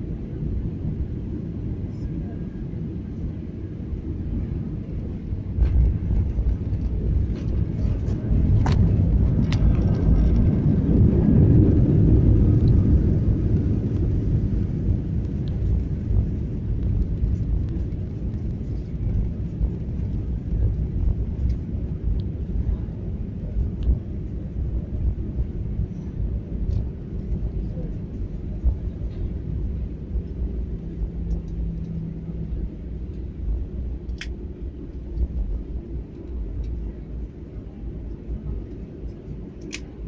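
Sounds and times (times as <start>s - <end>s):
airliner cabin rumble and roar: 0.0s - 40.0s.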